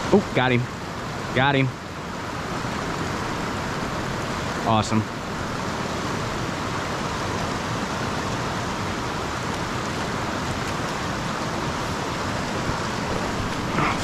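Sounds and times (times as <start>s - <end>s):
stream rushing over stones: 0.0s - 14.0s.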